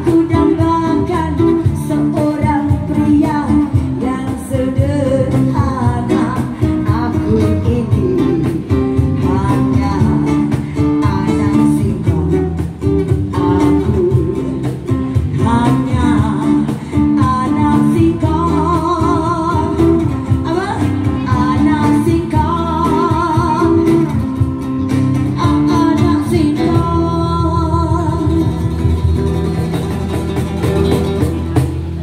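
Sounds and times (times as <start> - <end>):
woman singing with vibrato: 0.0 - 29.3
amplified acoustic guitar: 0.0 - 32.0
electric guitar: 0.0 - 32.0.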